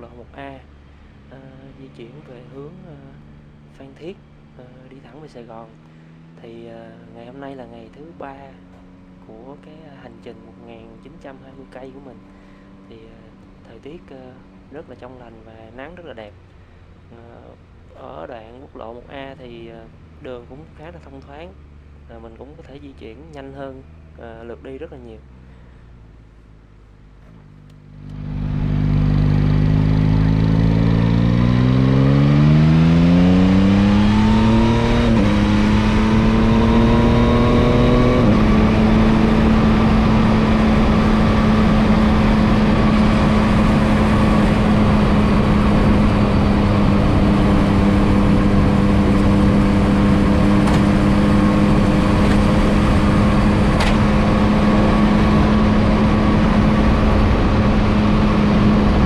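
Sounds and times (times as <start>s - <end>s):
motorcycle engine accelerating: 0.0s - 24.5s, 26.4s - 59.0s.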